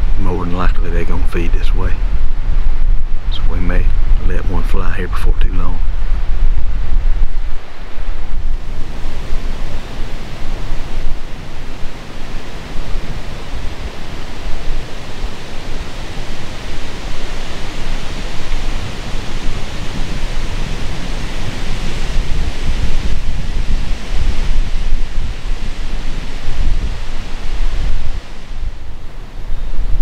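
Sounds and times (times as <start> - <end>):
wind buffeting microphone: 0.0 - 30.0
wind rushing through trees: 0.0 - 30.0.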